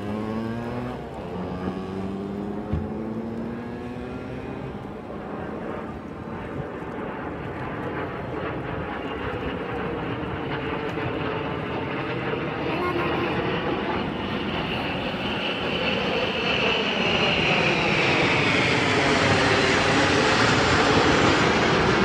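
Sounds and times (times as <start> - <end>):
jet engines overhead: 0.0 - 22.0.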